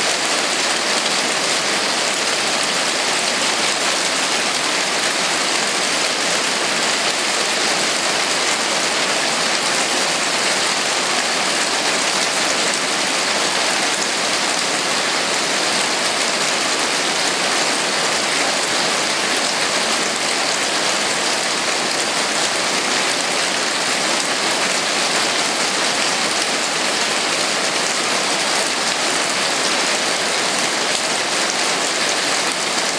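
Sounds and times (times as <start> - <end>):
hail drumming on roof: 0.1 - 32.9.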